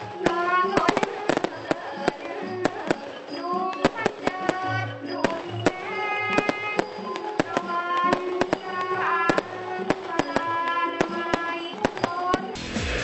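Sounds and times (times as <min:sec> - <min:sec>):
fireworks bangs and pops: 0:00.0 - 0:12.6
music with sustained notes: 0:00.0 - 0:13.0.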